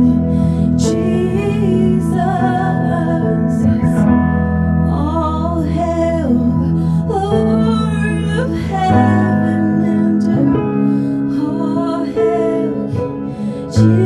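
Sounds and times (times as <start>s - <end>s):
keyboard pad chords: 0.0s - 14.0s
woman singing: 0.0s - 14.0s.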